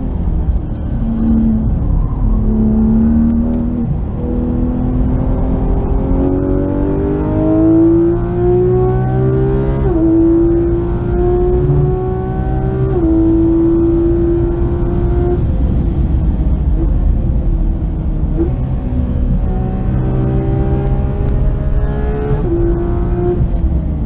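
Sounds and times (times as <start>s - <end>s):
car engine at full throttle: 0.0s - 24.0s
road rumble: 0.0s - 24.0s.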